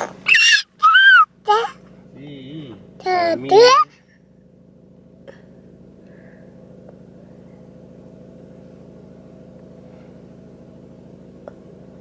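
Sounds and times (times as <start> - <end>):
car engine hum from cabin: 0.0 - 12.0.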